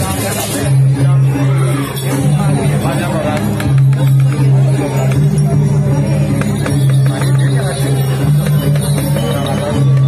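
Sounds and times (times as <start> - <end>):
gamelan music: 0.0 - 10.0.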